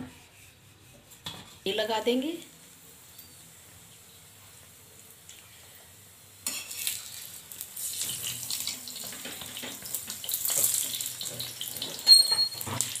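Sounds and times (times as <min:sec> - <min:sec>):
flatbread sizzling and crackling: 0:00.5 - 0:13.0.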